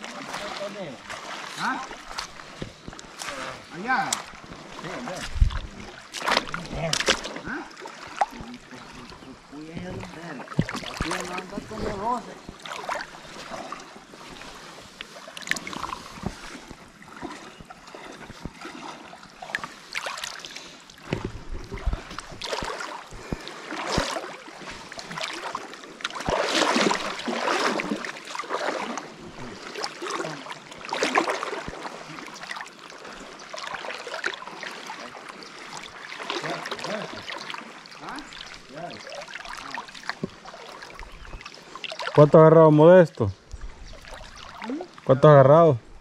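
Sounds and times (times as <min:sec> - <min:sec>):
water splashing from wading: 0:00.0 - 0:45.2.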